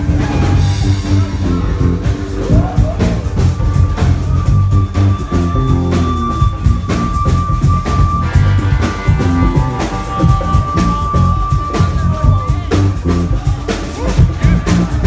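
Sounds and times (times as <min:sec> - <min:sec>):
loud live rock music: 0:00.0 - 0:15.0.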